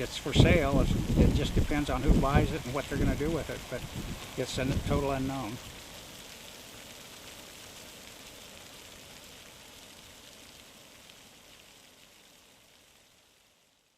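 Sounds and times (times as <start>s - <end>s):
hot water spraying and splashing: 0.0s - 13.9s.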